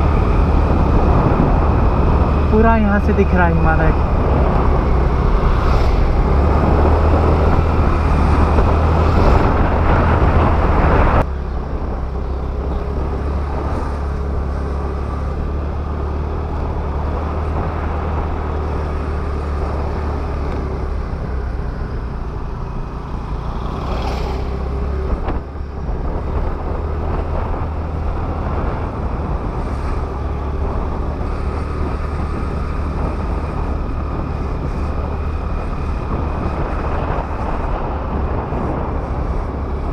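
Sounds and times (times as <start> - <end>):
scooter engine hum: 0.0 - 39.9
wind rush: 0.0 - 39.9.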